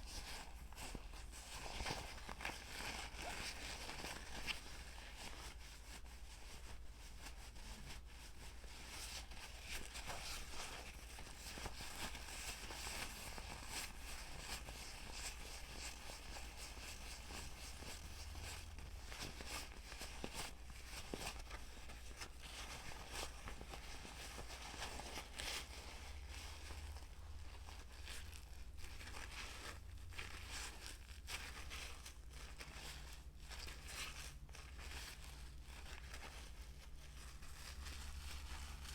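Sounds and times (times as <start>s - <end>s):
crisp crackling and rustling: 0.0s - 38.9s.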